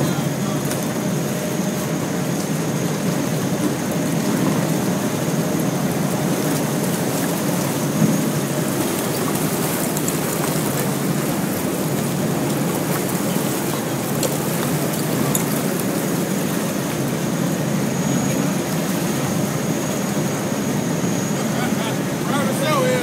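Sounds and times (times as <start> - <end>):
boat engine rumble: 0.0 - 23.0.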